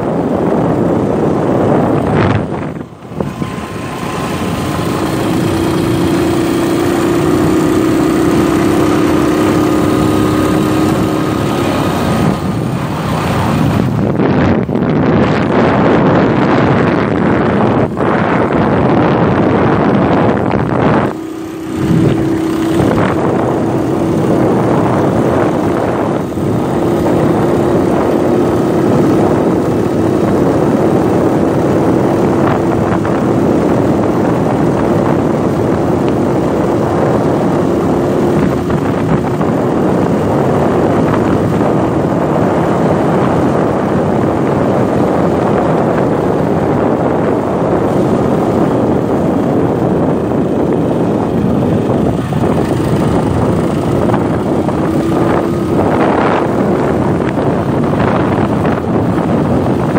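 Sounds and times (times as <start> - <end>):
motorcycle engine cruising: 0.0 - 59.9
road and wind noise: 0.0 - 59.9.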